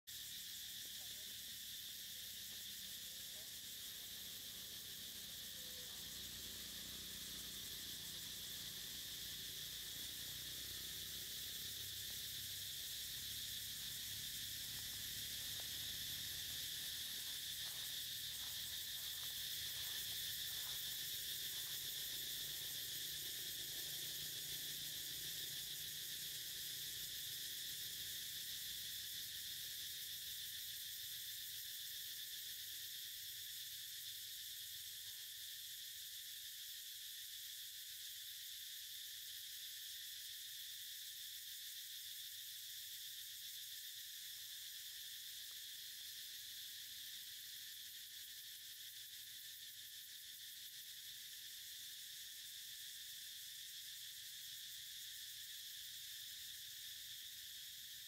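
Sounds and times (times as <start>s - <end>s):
insects droning: 0.1s - 58.0s.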